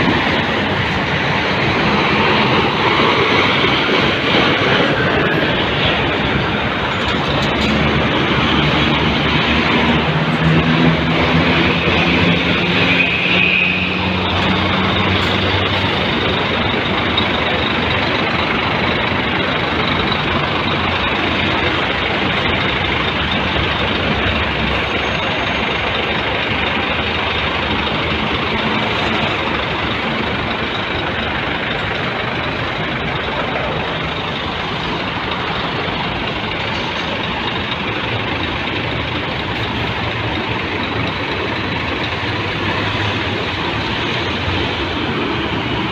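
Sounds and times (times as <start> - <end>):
truck engine running: 0.0 - 45.9.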